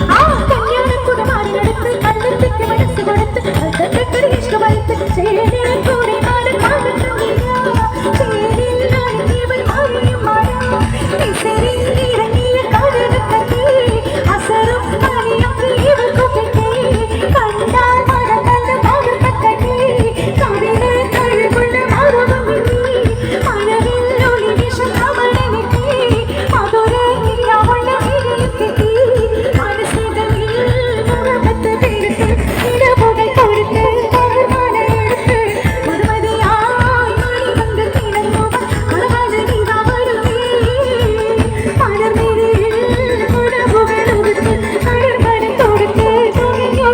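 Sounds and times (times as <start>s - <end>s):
singer with band over steady beat: 0.0s - 46.9s.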